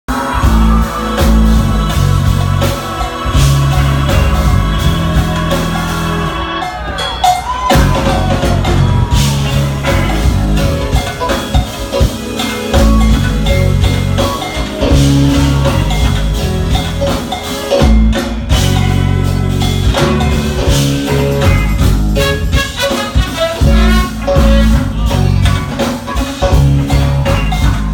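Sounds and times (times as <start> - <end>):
jazz fusion band playing: 0.1 - 27.9.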